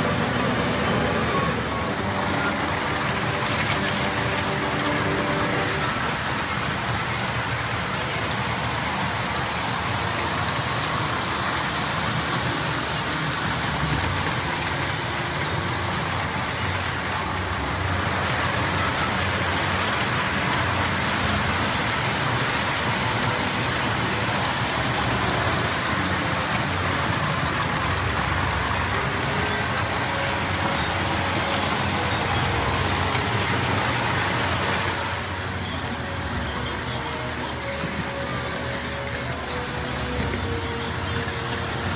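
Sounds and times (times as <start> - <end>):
toy train wheels and motors rumbling: 0.0 - 41.9.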